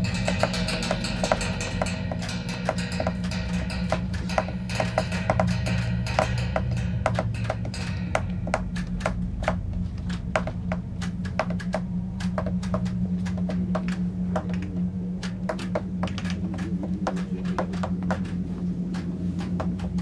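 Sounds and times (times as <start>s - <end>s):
sharp clicks and crackles: 0.0s - 20.0s
steady low hum: 0.0s - 20.0s.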